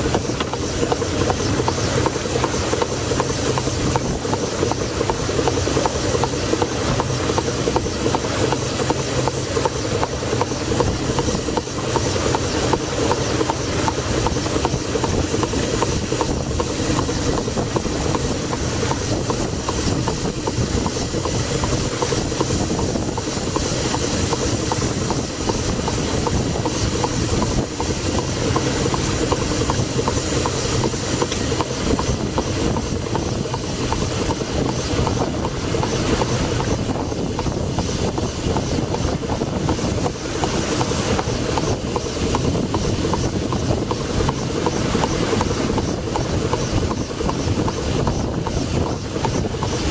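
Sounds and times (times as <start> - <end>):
steam engine running: 0.0 - 49.9.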